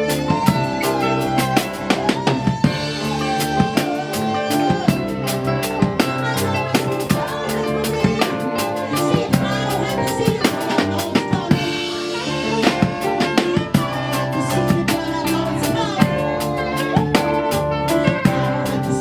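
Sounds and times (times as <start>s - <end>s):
drum kit: 0.0s - 19.0s
gospel band playing: 0.0s - 19.0s.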